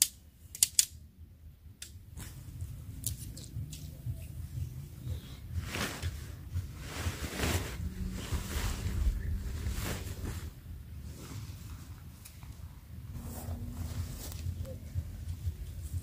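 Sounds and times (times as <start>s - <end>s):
tent fabric rustling: 2.1s - 3.0s, 3.8s - 16.0s
wind rumble on microphone: 2.5s - 16.0s.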